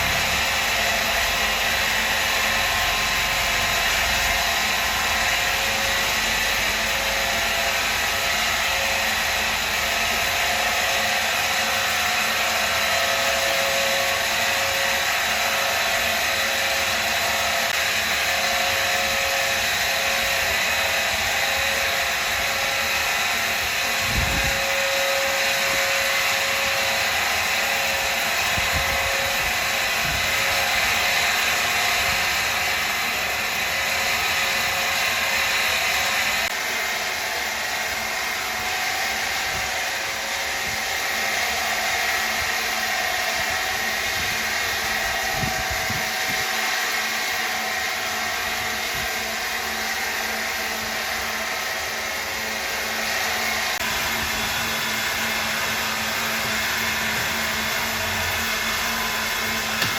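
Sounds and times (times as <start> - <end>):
machine whirring: 0.0 - 59.9.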